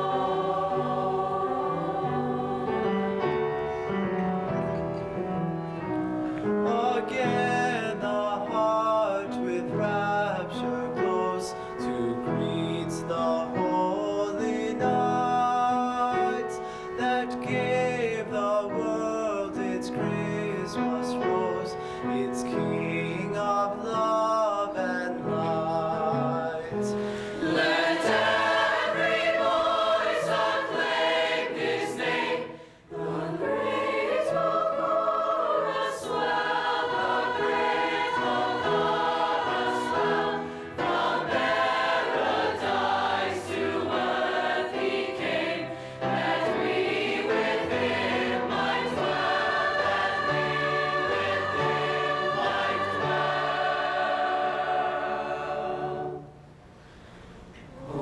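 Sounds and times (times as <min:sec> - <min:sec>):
choir singing a carol: 0:00.0 - 0:56.4, 0:57.8 - 0:58.0.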